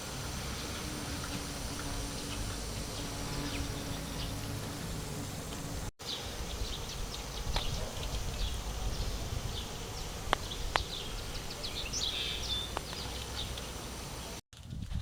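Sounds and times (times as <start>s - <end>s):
small birds chirping: 0.4s - 14.4s.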